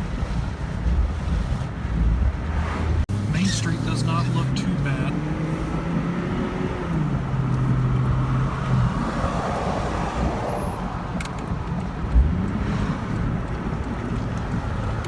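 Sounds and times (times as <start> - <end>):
car engine hum: 0.0 - 15.0
road noise inside car: 0.0 - 15.0.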